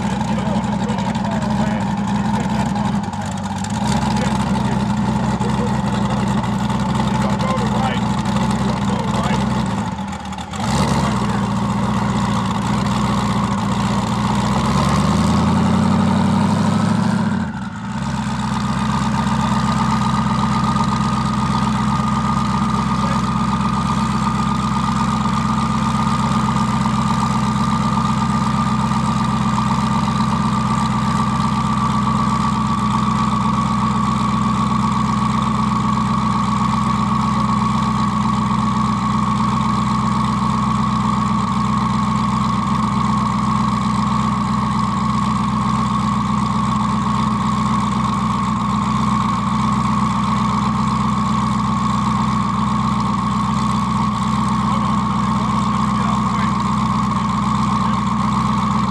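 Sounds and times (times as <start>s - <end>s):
car engine revving: 0.0s - 58.9s
high whine: 0.0s - 58.9s.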